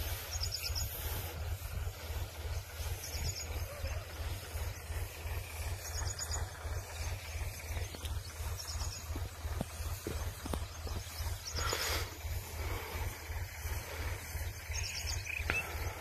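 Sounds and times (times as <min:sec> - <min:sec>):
bird chirping: 0:00.0 - 0:16.0
tractor engine running: 0:00.0 - 0:16.0.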